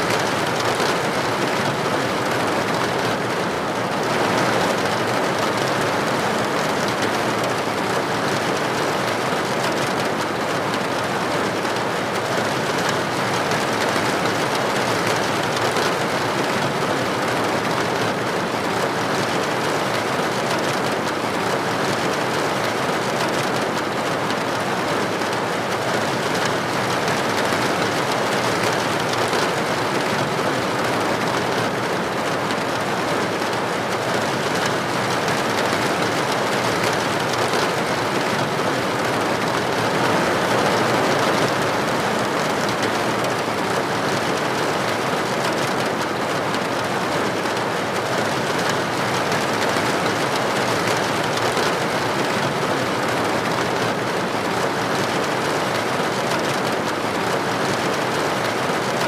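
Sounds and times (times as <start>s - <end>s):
heavy rain on hard surface: 0.0s - 59.0s.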